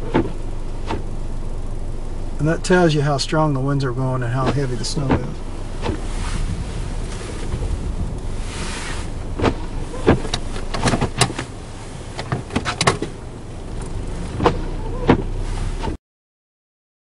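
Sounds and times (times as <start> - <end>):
wind buffeting a vehicle: 0.0 - 16.0.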